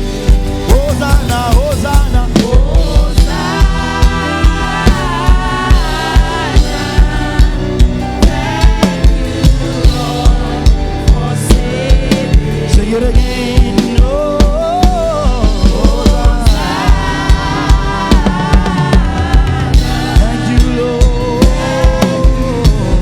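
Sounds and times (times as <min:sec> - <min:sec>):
bass: 0:00.0 - 0:23.0
drum kit beat: 0:00.0 - 0:23.0
keyboard: 0:00.0 - 0:23.0
worship team singing: 0:00.7 - 0:23.0.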